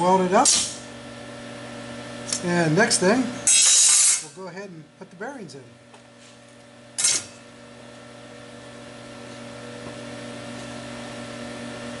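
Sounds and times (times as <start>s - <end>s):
workshop equipment humming: 0.0s - 12.0s.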